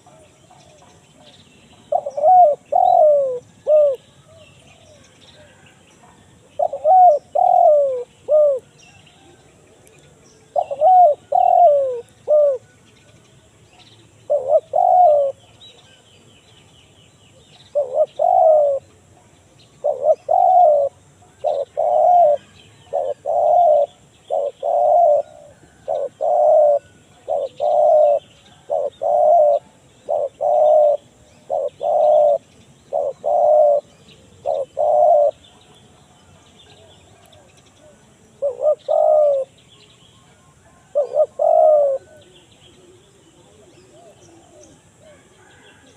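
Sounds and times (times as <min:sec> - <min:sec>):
dove cooing: 0:00.0 - 0:09.4, 0:10.1 - 0:12.9, 0:14.1 - 0:16.0, 0:17.6 - 0:39.6, 0:40.2 - 0:45.9
small birds chirping: 0:00.0 - 0:45.9.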